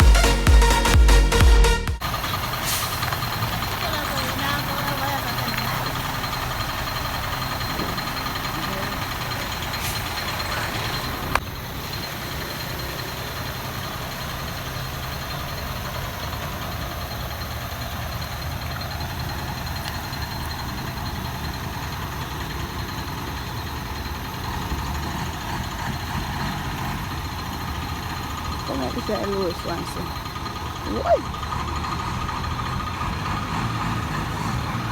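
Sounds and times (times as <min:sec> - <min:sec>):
engine low rumble: 0:00.0 - 0:34.9.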